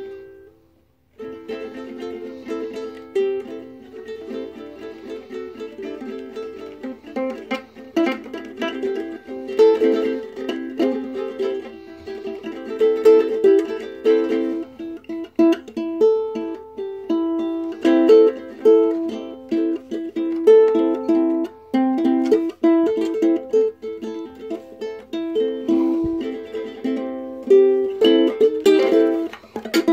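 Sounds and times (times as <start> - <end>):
ukulele strumming and plucking: 0.0 - 29.9.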